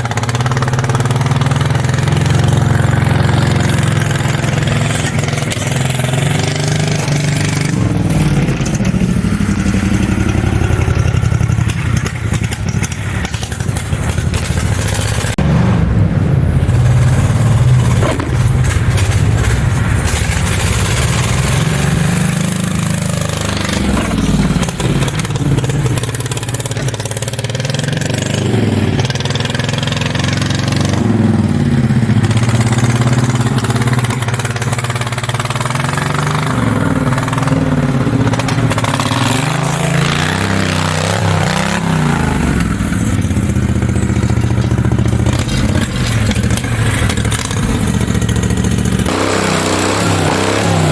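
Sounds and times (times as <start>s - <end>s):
mini bike engine revving: 0.0s - 50.9s.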